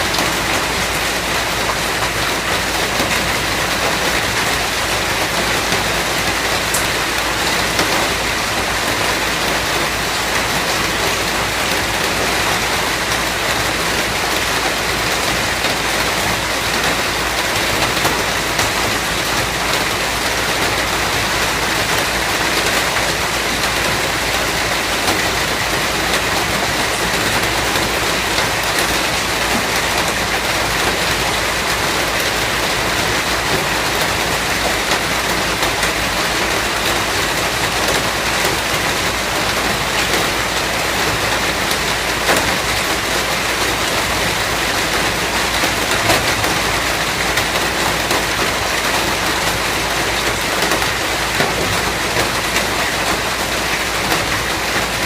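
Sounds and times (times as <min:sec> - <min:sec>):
rain falling: 0:00.0 - 0:55.0
raindrops ticking on a surface: 0:00.0 - 0:55.0.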